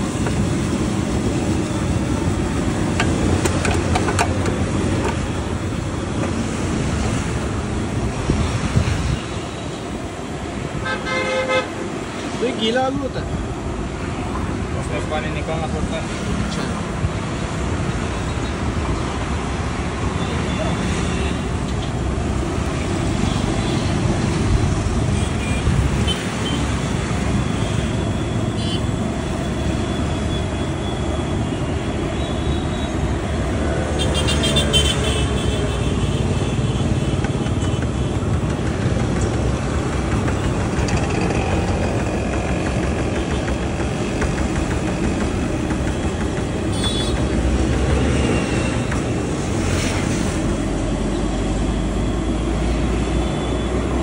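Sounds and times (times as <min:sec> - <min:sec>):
road traffic noise: 0:00.0 - 0:54.0
vehicles passing: 0:00.0 - 0:54.0.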